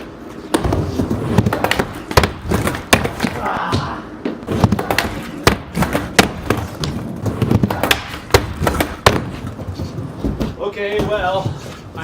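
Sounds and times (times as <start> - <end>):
skateboard wheels rolling on concrete: 0.0 - 3.5, 4.2 - 12.0
skateboard clacks and thuds: 0.5 - 3.4, 4.5 - 11.6.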